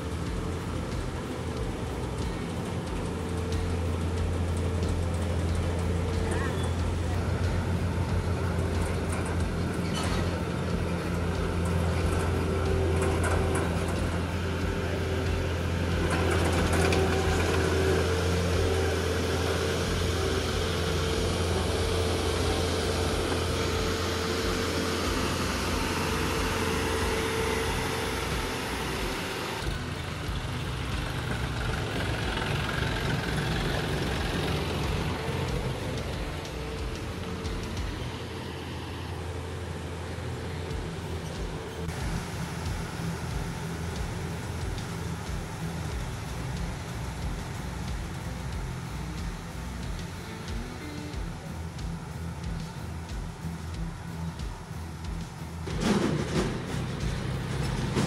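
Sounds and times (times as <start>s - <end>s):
diesel engine hum: 0.0s - 58.0s
whirring machinery: 0.0s - 58.0s.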